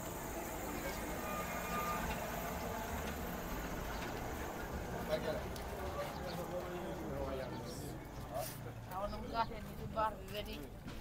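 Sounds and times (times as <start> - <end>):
street noise: 0.0 - 11.0
vehicle engine rumbling: 0.0 - 11.0.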